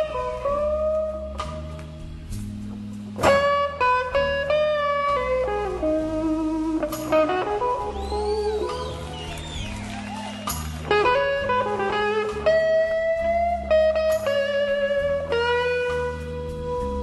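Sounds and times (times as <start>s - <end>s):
bass line: 0.0s - 17.0s
guitar music: 0.0s - 17.0s.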